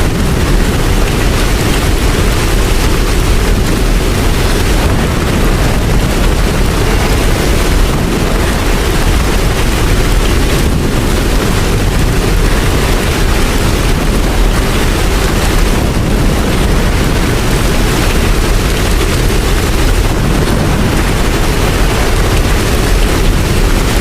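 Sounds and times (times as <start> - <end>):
deep rumble: 0.0 - 24.0
steady rain hiss: 0.0 - 24.0.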